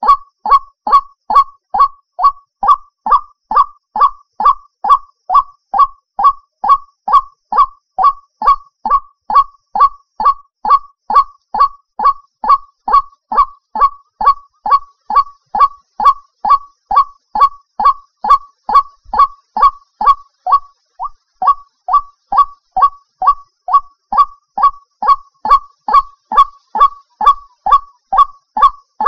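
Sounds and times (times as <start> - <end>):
bird honking call: 0.0 - 29.0.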